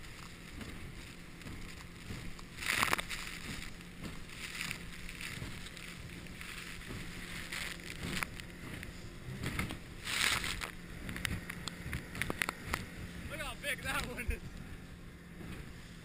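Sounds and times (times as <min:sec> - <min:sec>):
low boat motor hum: 0:00.0 - 0:16.0
wind and water rushing: 0:00.0 - 0:16.0.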